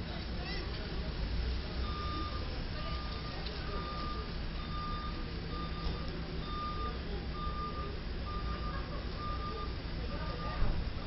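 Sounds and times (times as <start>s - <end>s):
heavy truck engines rumbling: 0.0s - 11.0s
truck reversing alarm beeping: 1.7s - 11.0s.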